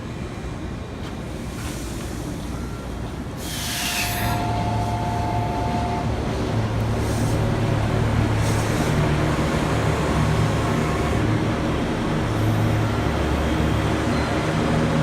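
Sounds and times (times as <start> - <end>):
train rumbling by: 0.0 - 15.0.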